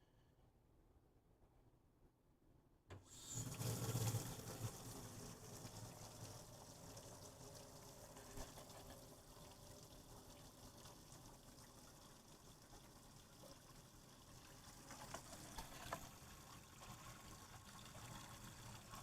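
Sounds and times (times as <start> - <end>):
tap water running into sink: 2.9 - 19.0.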